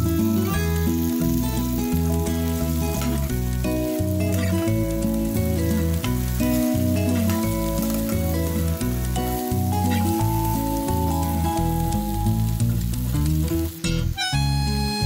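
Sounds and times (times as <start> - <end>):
instrumental music with bass line: 0.0 - 15.0
okra sizzling in hot oil: 0.0 - 15.0.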